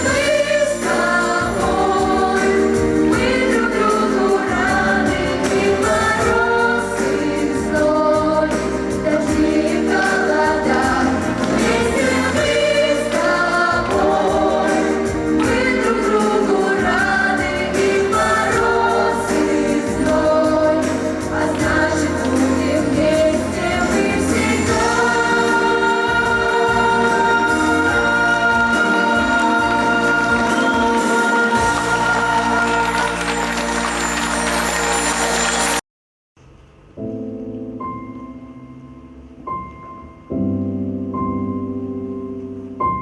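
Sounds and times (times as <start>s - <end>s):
vocal ensemble singing: 0.0s - 35.4s
instrumental backing music: 0.0s - 35.8s.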